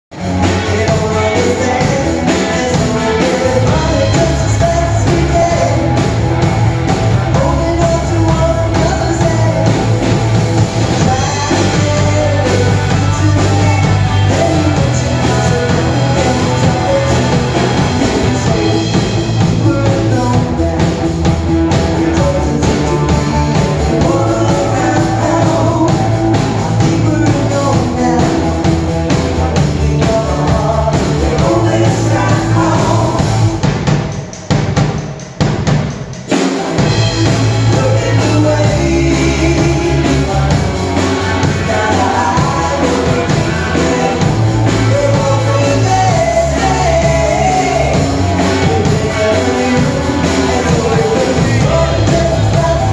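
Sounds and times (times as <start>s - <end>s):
electric guitars and drum kit: 0.1s - 52.9s.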